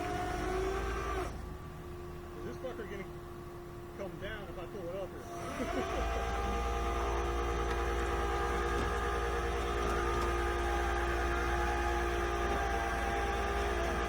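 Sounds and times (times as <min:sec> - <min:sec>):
hydraulic whining hum: 0:00.0 - 0:14.0
truck engine drone: 0:00.0 - 0:14.0.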